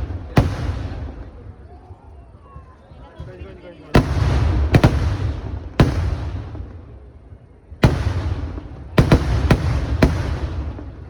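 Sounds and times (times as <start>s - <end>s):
fireworks exploding: 0.0s - 2.0s, 3.2s - 11.0s.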